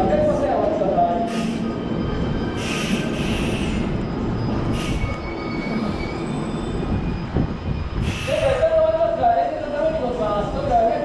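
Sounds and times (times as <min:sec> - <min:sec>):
train low rumble: 0:00.0 - 0:11.0
train screeching: 0:00.0 - 0:11.0.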